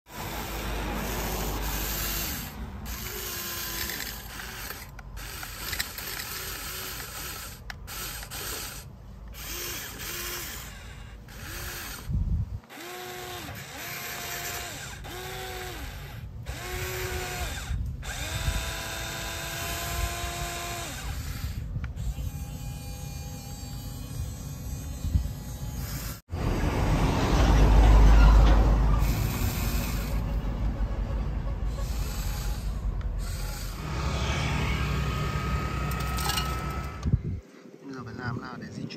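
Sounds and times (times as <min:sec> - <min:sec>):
electric motors whirring: 0:00.1 - 0:26.3, 0:28.6 - 0:37.2.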